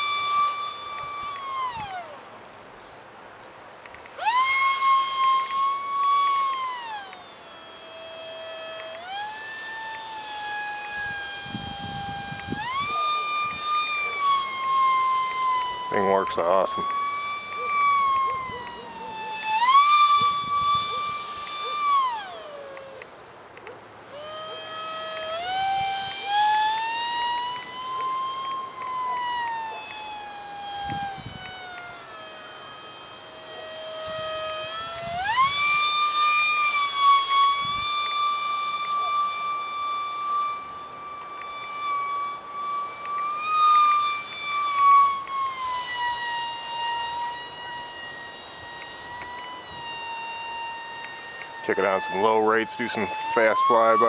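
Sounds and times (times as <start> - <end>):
electric ducted fan whining: 0.0 - 54.0.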